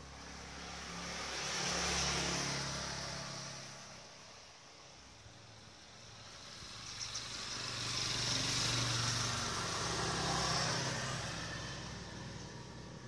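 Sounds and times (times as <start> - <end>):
motor vehicle passing by: 0.0 - 4.4, 5.5 - 13.0.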